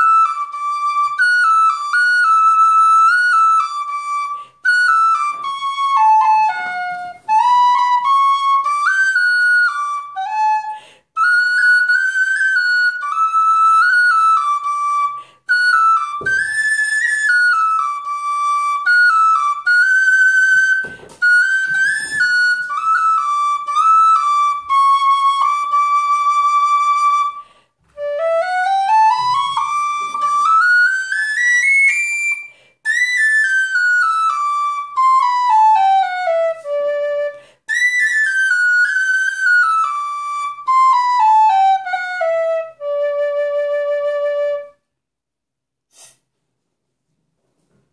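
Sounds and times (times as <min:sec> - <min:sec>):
tin whistle melody: 0:00.0 - 0:44.9.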